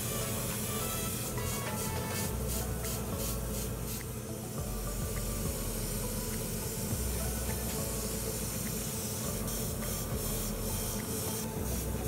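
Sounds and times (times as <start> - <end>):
airbrush spraying hiss: 0.0 - 12.0.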